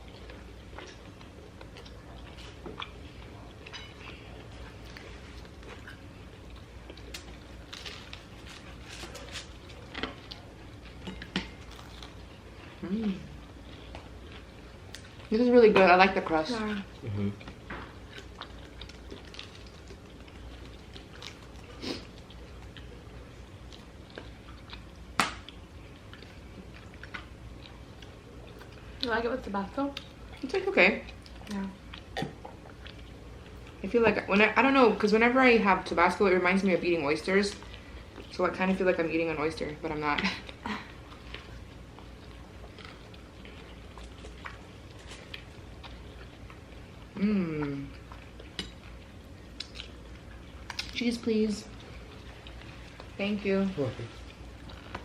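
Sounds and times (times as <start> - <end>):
chewing crispy pizza: 0.0 - 34.8, 35.6 - 55.0.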